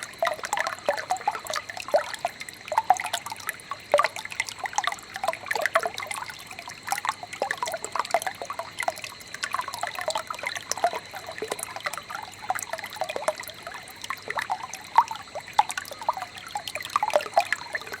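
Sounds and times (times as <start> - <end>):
stream trickling and babbling: 0.0 - 18.0.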